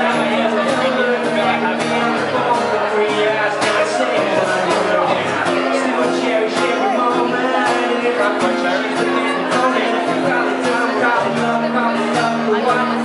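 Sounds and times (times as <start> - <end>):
guitar-led music with steady beat: 0.0 - 13.0.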